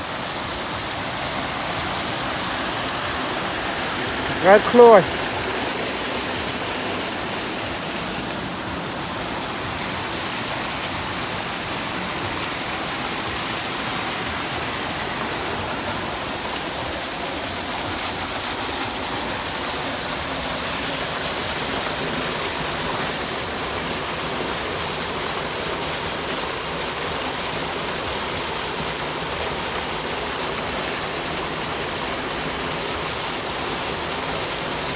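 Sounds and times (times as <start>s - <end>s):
water rushing into basins: 0.0s - 34.9s.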